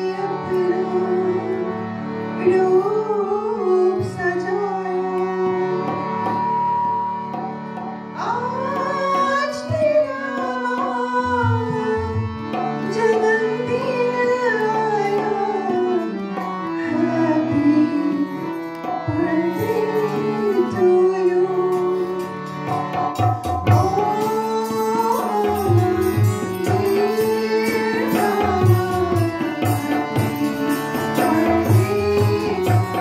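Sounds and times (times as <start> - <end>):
harmonium chords: 0.0 - 33.0
woman singing into a microphone: 0.0 - 33.0.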